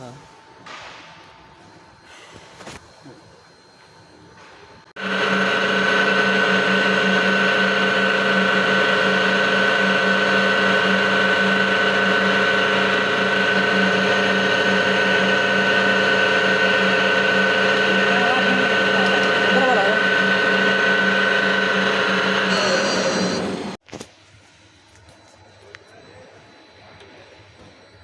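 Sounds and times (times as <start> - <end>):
hoist motor whine and hum: 0.0 - 28.0.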